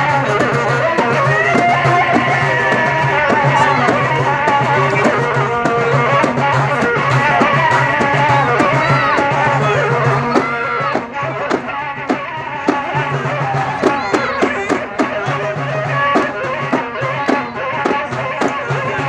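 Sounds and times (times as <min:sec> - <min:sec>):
frame drum beating: 0:00.0 - 0:19.0.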